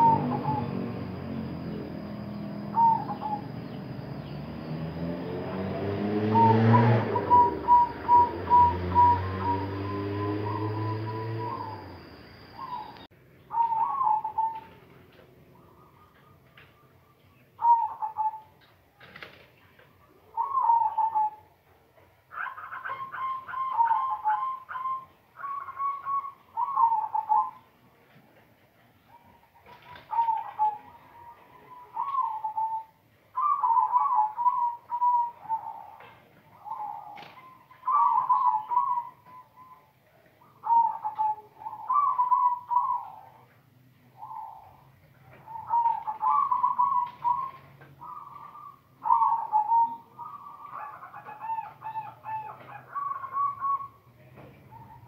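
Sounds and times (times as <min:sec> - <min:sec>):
dove cooing: 0:00.0 - 0:18.6, 0:20.0 - 0:21.6, 0:22.3 - 0:27.8, 0:29.0 - 0:55.0.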